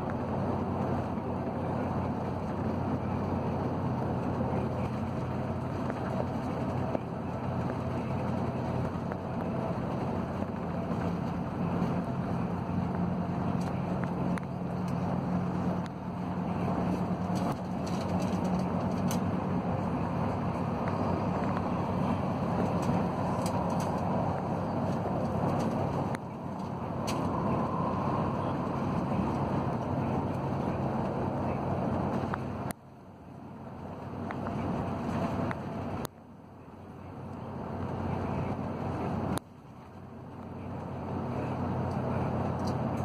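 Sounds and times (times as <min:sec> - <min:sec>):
road and engine noise: 0:00.0 - 0:43.0.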